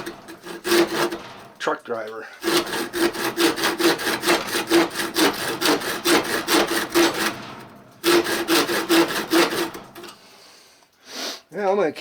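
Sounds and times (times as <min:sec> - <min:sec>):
hand saw cutting wood: 0:00.0 - 0:10.3.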